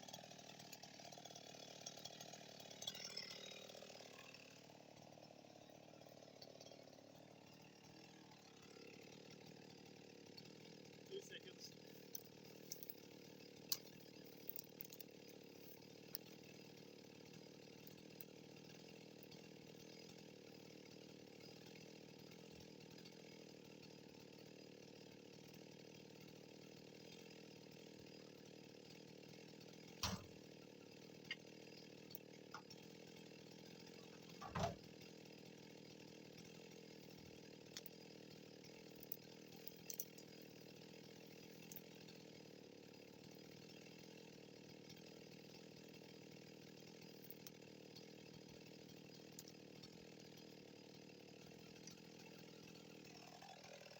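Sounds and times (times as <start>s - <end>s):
chainsaw engine idling: 0.0s - 53.9s.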